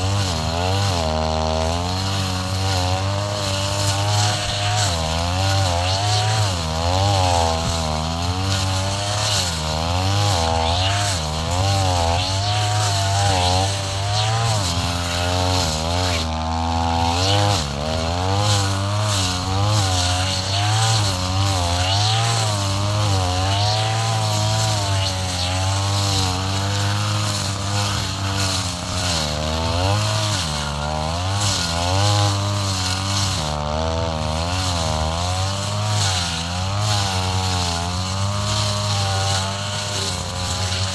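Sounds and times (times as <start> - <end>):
brush cutter engine: 0.0 - 40.9.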